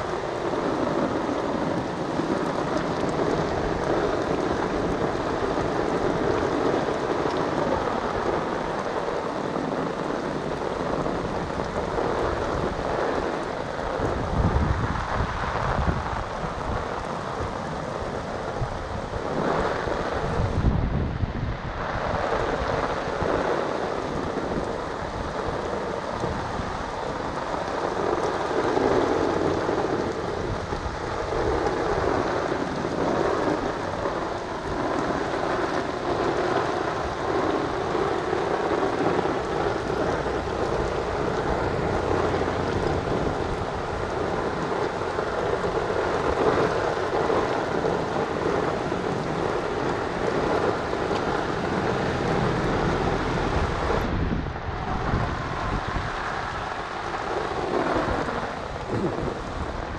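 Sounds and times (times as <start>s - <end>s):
water splashing in gutter: 0.0s - 20.8s, 21.5s - 59.9s
steady rain falling: 0.0s - 59.9s.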